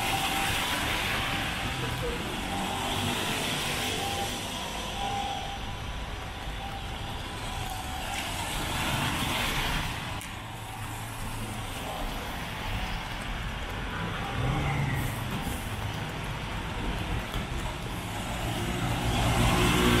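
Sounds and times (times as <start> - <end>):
vehicle engines humming: 0.0 - 20.0.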